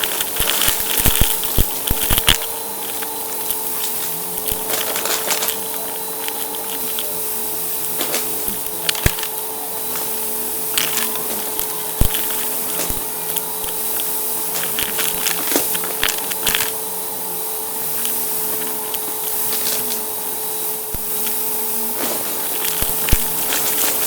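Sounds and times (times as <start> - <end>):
brushroll crunching debris: 0.0 - 17.0, 20.9 - 24.0
vacuum cleaner motor whine: 0.0 - 24.0.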